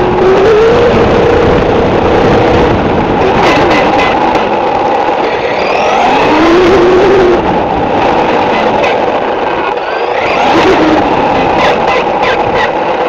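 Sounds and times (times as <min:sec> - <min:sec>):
rc buggy motor running hard: 0:00.0 - 0:13.0
tyre and road noise: 0:00.0 - 0:13.0.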